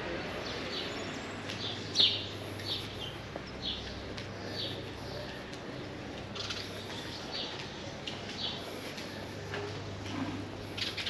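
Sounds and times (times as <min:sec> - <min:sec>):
small birds chirping: 0:00.0 - 0:09.4, 0:10.6 - 0:11.0
street ambience hum: 0:00.0 - 0:11.0.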